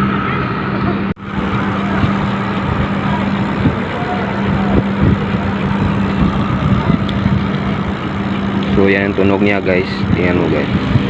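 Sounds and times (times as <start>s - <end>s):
bicycle hub freewheeling buzz: 1.2s - 11.0s.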